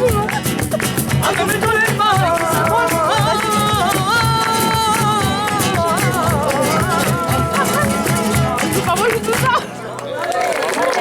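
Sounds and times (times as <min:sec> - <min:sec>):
flamenco-style singing: 0:00.0 - 0:09.8
strummed acoustic guitar: 0:00.0 - 0:09.9.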